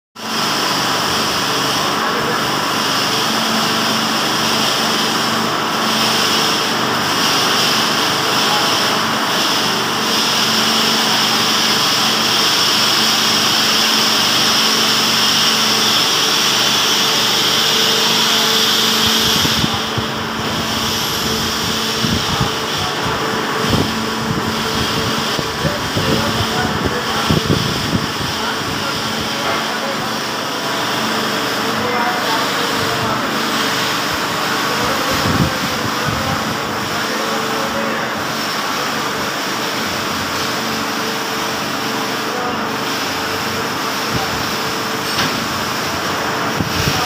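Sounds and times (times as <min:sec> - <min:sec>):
machine hum with hiss: 0:00.2 - 0:47.0.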